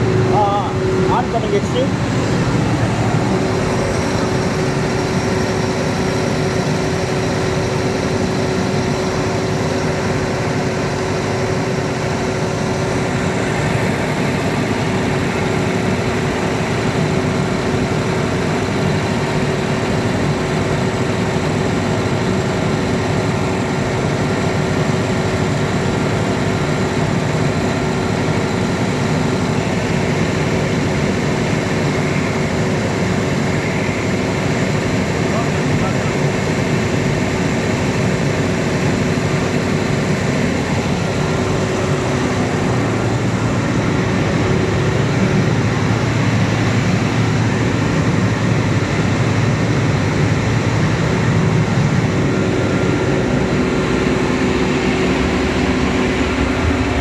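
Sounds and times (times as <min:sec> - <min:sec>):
diesel generator engine running: 0:00.0 - 0:57.0.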